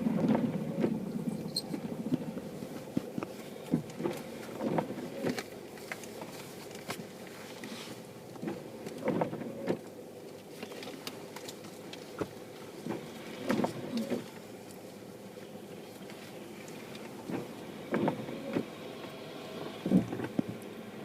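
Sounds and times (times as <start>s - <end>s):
car engine low hum: 0.0s - 21.0s.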